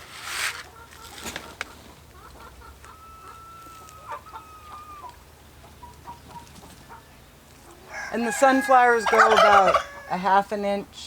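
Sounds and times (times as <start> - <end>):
chickens calling: 0.1 - 10.8.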